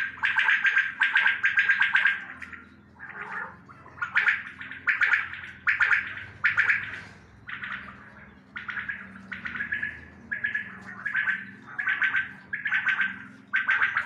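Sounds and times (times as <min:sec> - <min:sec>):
quails calling: 0:00.0 - 0:14.0.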